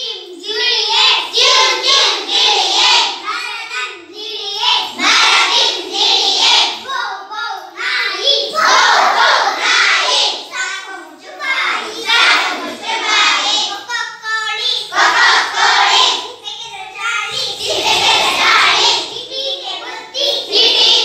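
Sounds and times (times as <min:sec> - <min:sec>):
children singing together: 0:00.0 - 0:21.0.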